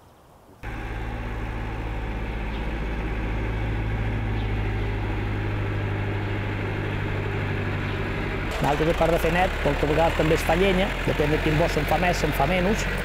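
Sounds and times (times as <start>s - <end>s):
tractor engine running: 0.6s - 13.0s.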